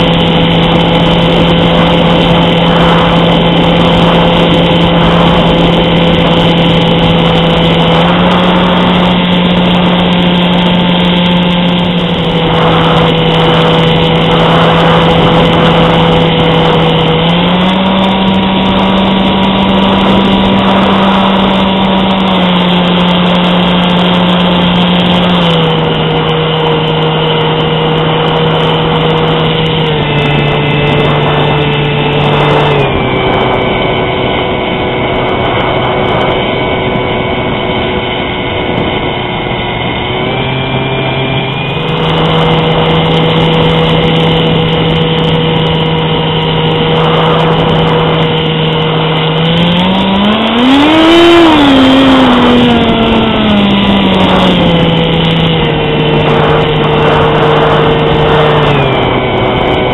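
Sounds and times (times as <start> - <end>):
electric motor and propeller buzzing: 0.0 - 59.9
wind noise: 0.0 - 59.9.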